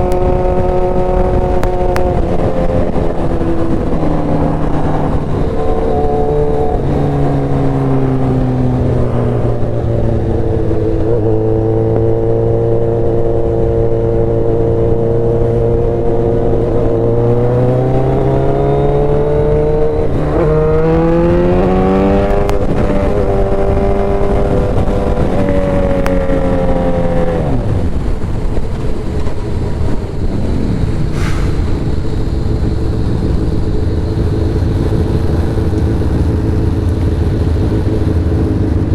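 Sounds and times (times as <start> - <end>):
steady rushing noise: 0.0 - 18.3, 19.0 - 38.9
motorcycle engine revving: 0.0 - 38.9.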